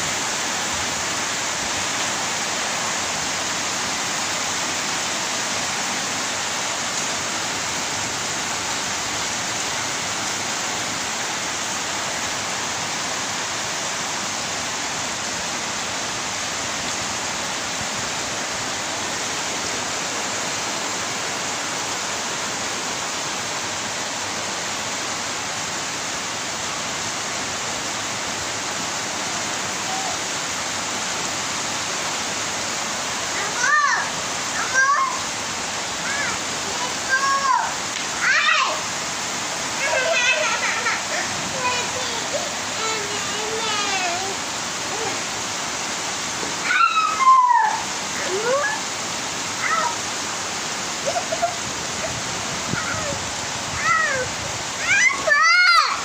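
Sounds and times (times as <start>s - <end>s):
heavy rain on trees and rooftops: 0.0s - 56.0s.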